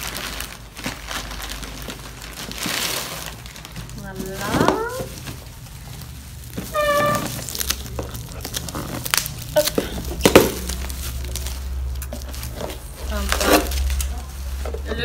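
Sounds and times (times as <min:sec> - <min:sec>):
bubble wrap crinkling and crackling: 0:00.0 - 0:15.0.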